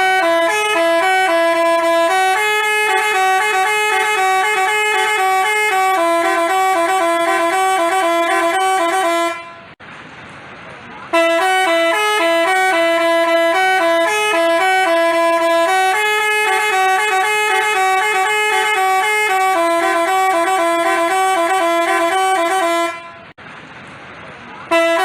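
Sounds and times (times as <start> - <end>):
bus horn playing a melody: 0.0 - 9.8, 11.1 - 23.4, 24.7 - 25.0.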